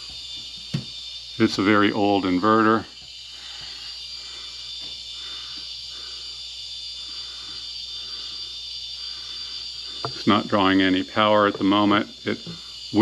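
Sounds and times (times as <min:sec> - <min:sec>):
power inverter whine: 0:00.0 - 0:13.0.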